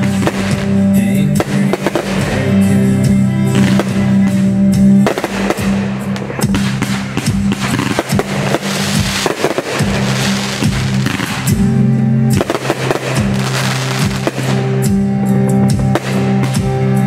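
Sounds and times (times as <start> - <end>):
fireworks bursting and crackling: 0.0 - 17.0
music with steady bass line: 0.0 - 17.0.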